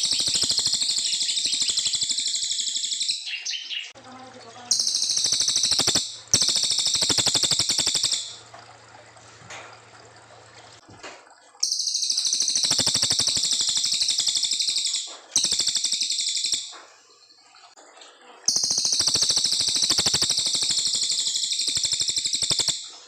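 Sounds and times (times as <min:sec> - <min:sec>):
songbird high-pitched trills: 0:00.0 - 0:08.4, 0:11.6 - 0:17.5, 0:18.4 - 0:23.0.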